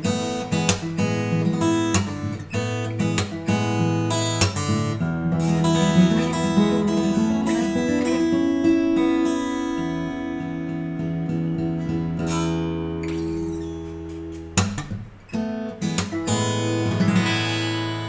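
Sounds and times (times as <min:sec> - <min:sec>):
acoustic guitar picked notes: 0:00.0 - 0:18.0
acoustic guitar strumming: 0:00.0 - 0:18.0.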